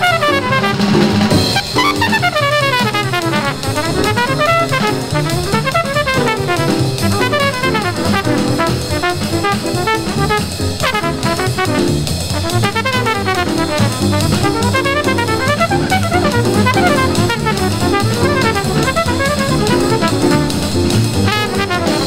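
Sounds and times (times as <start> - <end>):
drum kit: 0.0 - 22.0
trumpet playing fast runs: 0.0 - 22.0
walking bass: 0.0 - 22.0.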